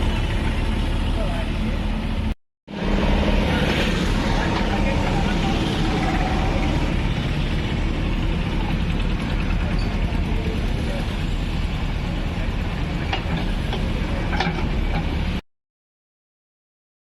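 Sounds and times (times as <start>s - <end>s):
diesel engine running: 0.0s - 15.4s.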